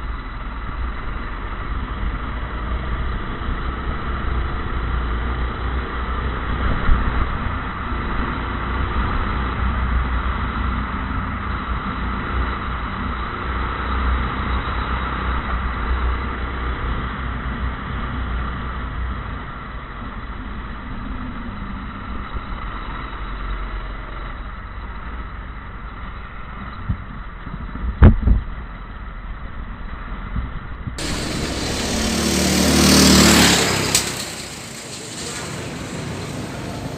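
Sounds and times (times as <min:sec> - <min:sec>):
go-kart engine running: 0:00.0 - 0:36.9.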